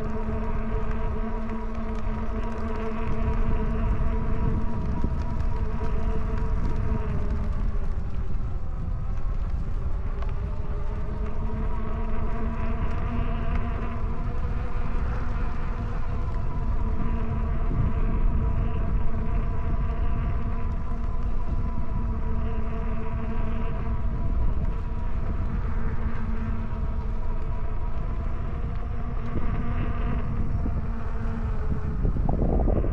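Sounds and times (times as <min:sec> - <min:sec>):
electric bike motor whining: 0:00.0 - 0:32.9
wind rumbling on microphone: 0:00.0 - 0:32.9.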